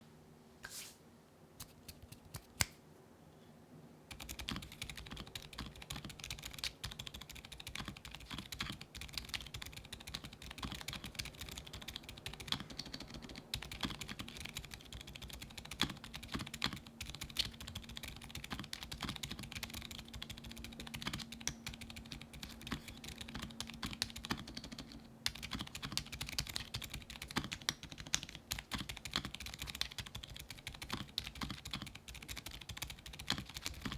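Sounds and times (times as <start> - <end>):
typing on mechanical keyboard: 4.1 - 33.9.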